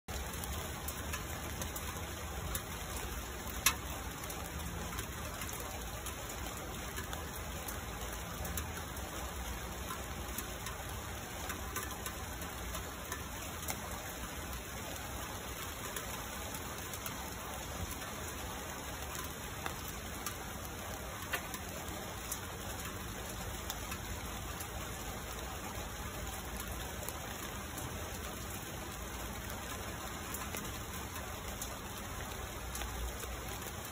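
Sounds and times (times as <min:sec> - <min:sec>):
rain falling on leaves and stone: 0:00.1 - 0:33.9.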